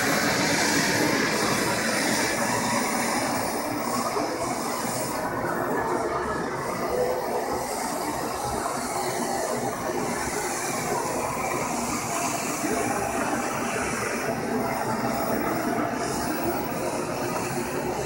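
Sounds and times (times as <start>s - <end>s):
gas torch hissing: 0.0s - 18.0s.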